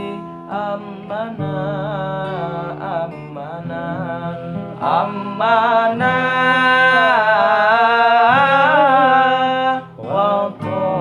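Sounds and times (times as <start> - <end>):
acoustic guitar accompaniment: 0.0 - 11.0
person singing devotional song: 0.0 - 11.0.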